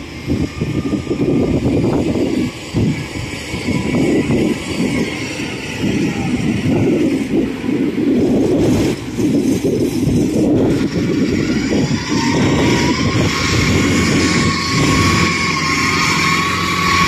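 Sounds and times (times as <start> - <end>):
rough cart engine running: 0.0 - 17.0.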